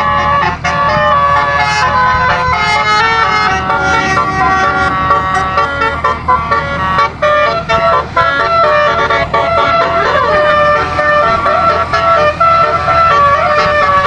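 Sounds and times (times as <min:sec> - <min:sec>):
air horn melody: 0:00.0 - 0:14.0
steady low hum: 0:00.6 - 0:14.0.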